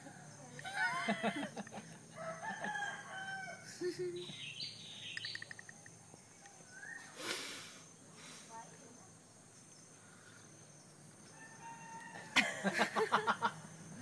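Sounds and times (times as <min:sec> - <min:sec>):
birds calling and chirping: 0:00.0 - 0:12.2.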